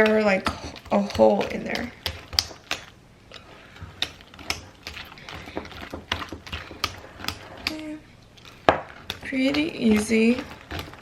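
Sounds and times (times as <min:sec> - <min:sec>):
utensil stirring thick batter: 0:00.0 - 0:11.0.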